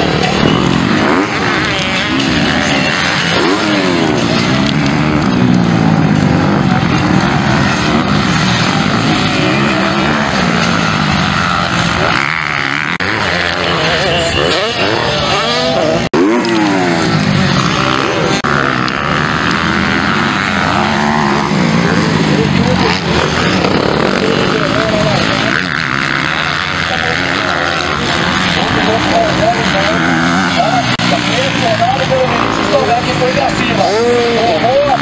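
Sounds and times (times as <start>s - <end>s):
motocross engines revving: 0.0s - 35.0s.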